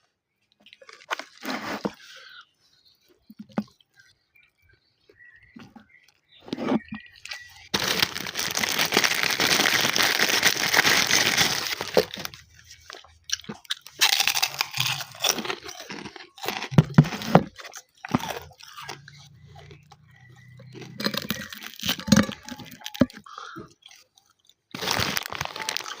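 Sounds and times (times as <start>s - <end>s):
chewing crunchy food: 0.3s - 26.0s.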